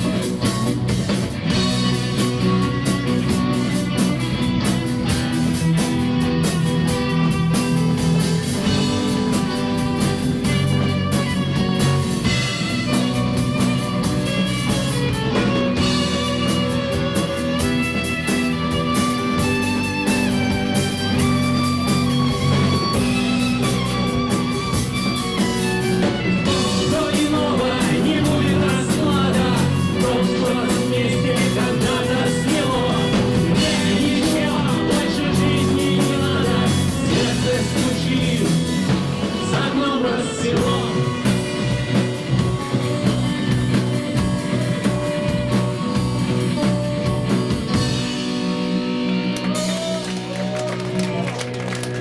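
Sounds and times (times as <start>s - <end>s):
drum kit: 0.0s - 52.0s
guitars playing: 0.0s - 52.0s.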